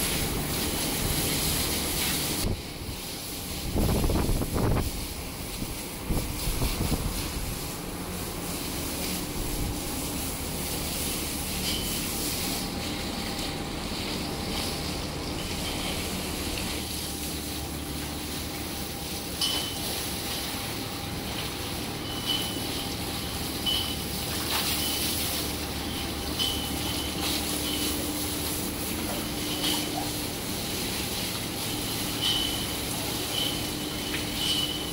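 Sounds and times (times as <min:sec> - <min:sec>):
hose water spraying and splashing: 0:00.0 - 0:34.9.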